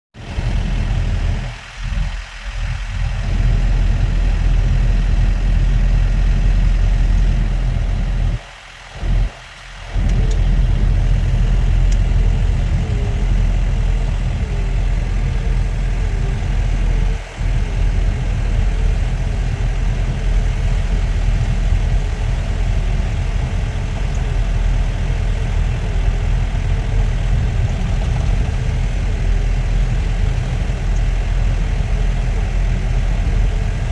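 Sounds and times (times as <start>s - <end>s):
car engine and road noise: 0.2s - 33.9s.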